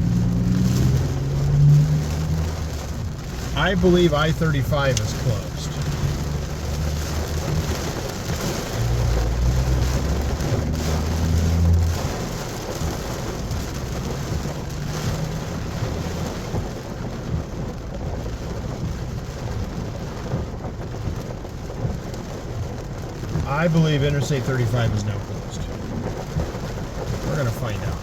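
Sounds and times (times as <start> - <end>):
low rumble: 0.0 - 23.8
heavy rain pouring: 0.0 - 28.0.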